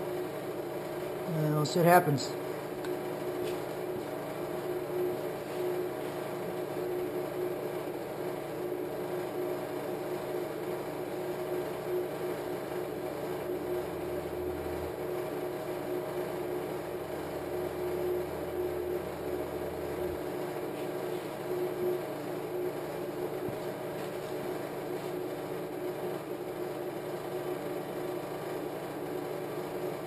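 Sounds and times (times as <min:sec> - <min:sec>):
mechanical hum and hiss: 0:00.0 - 0:30.0.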